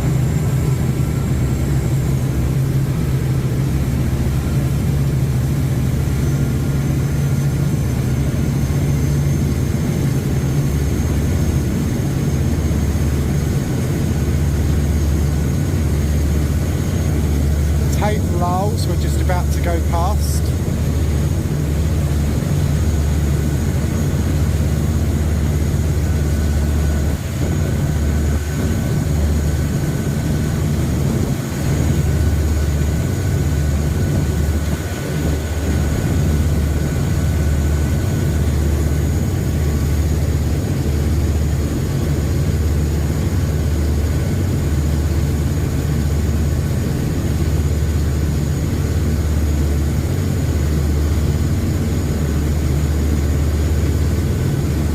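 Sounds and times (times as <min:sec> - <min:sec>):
boat engines droning: 0:00.0 - 0:54.9.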